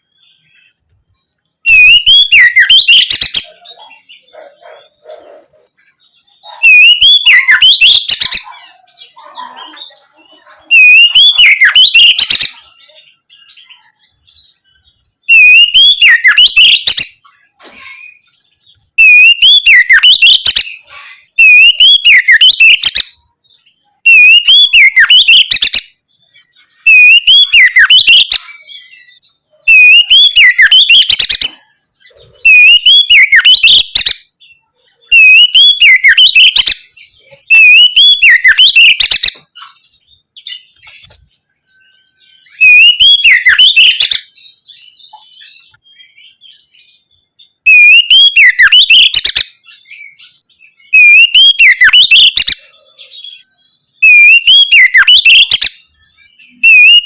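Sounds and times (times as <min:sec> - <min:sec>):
songbird whistling song phrases: 0:00.0 - 0:04.8, 0:05.6 - 0:57.0.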